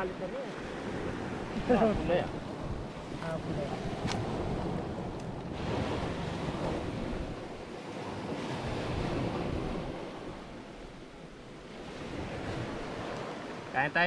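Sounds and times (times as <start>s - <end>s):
wind buffeting microphone: 0.0s - 13.8s
sea waves washing in: 0.0s - 14.0s.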